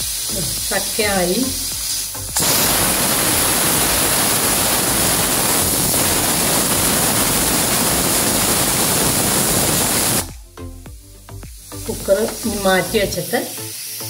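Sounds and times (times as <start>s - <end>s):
pressure cooker whistle hissing: 0.0s - 10.4s, 12.4s - 14.0s.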